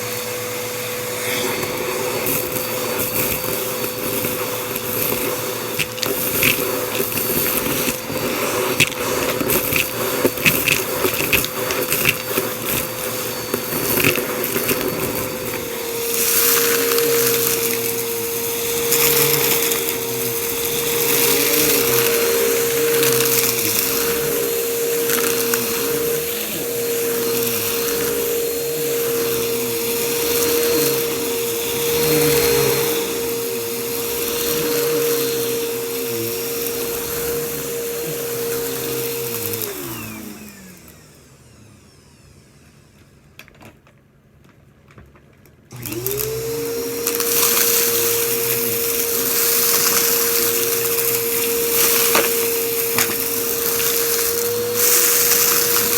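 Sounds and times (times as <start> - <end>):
vacuum cleaner motor whine: 0.0 - 44.1, 45.6 - 55.9.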